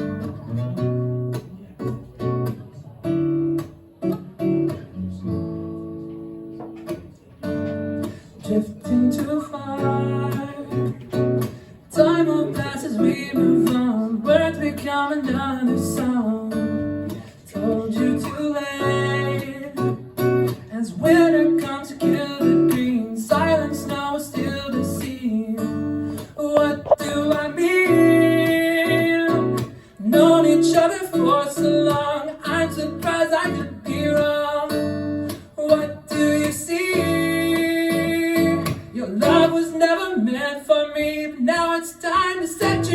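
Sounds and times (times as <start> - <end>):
acoustic guitar chords: 0.0 - 42.9.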